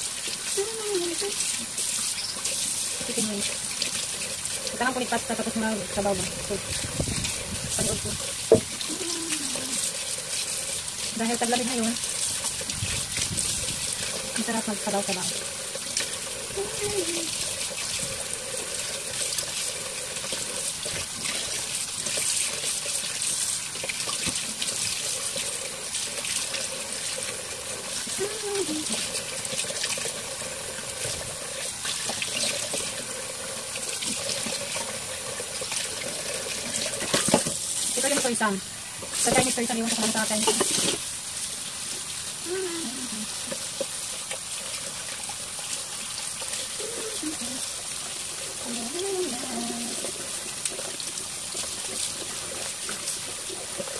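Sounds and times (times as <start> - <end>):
faucet running into sink: 0.0 - 53.9
water splashing over greens: 0.0 - 53.9.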